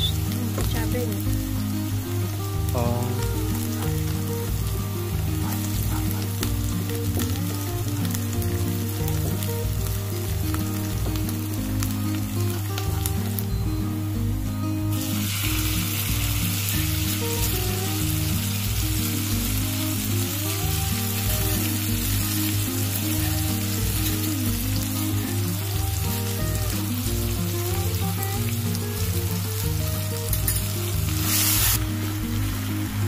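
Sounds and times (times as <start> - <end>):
background music with bass: 0.0 - 33.0
chili paste sizzling in oil: 0.0 - 33.0.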